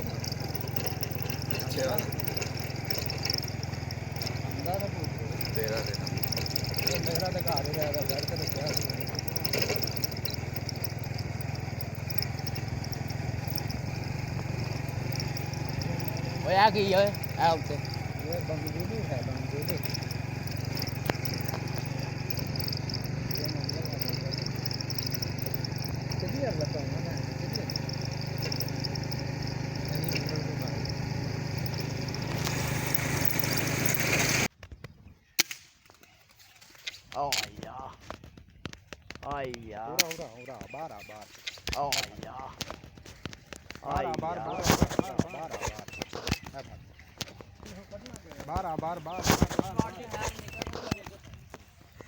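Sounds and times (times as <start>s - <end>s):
vehicle engine running: 0.0s - 34.5s, 39.9s - 52.0s.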